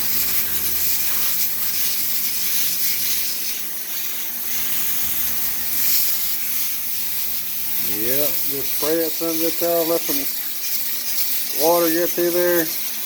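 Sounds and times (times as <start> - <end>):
hose water spray hissing: 0.0 - 13.0.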